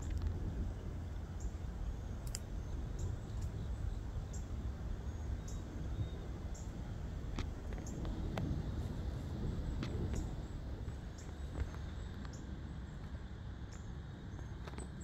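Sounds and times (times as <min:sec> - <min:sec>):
wind rumble on microphone: 0:00.0 - 0:15.0
small birds chirping: 0:01.0 - 0:15.0.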